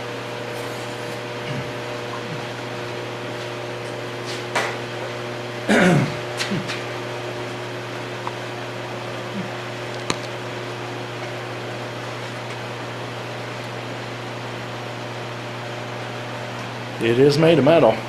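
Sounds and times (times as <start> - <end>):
hydraulic press humming: 0.0 - 17.0.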